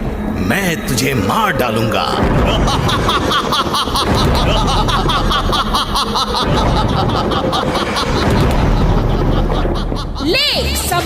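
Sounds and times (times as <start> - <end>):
music: 0.0 - 11.0
man laughing over loudspeaker: 1.6 - 11.0.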